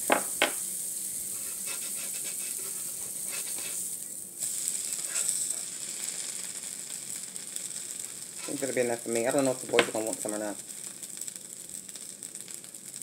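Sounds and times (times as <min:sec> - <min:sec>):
pancakes sizzling on griddle: 0:00.0 - 0:13.0.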